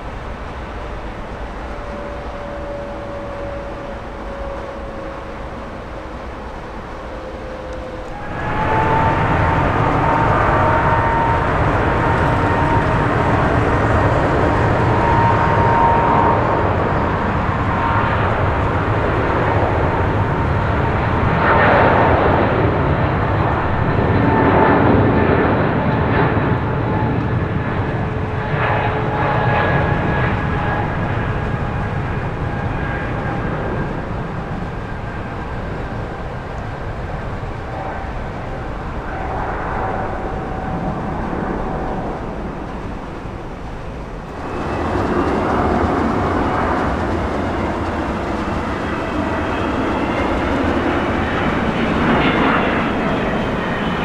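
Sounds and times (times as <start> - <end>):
jet engines rushing with fan whine: 0.0 - 54.0.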